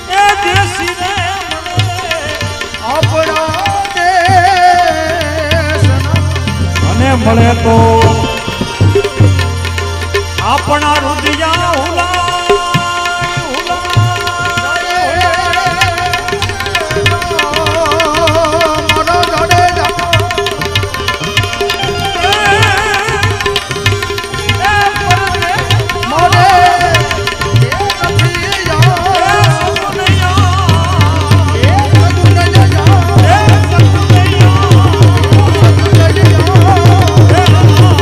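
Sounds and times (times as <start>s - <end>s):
tabla beat: 0.0s - 38.0s.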